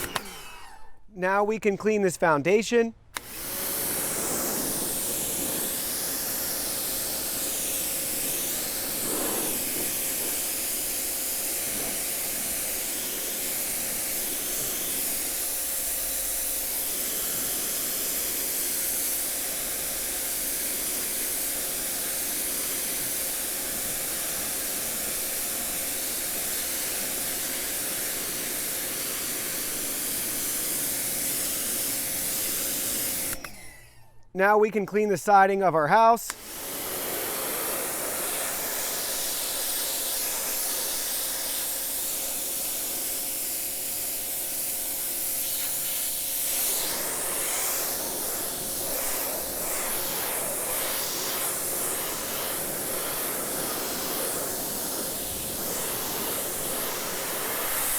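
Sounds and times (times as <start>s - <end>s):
pressure washer hum: 0.0s - 1.1s, 2.9s - 34.0s, 34.8s - 57.9s
pressure washer spraying water: 3.2s - 33.4s, 36.3s - 57.9s.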